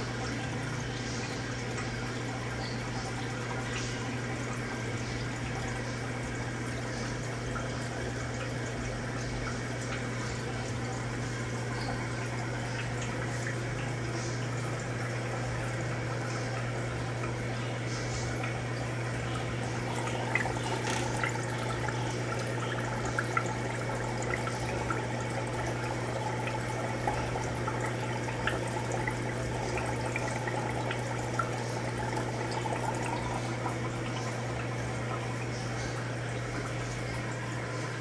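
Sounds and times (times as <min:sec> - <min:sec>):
aquarium water bubbling: 0:00.0 - 0:38.0
steady low hum: 0:00.0 - 0:38.0.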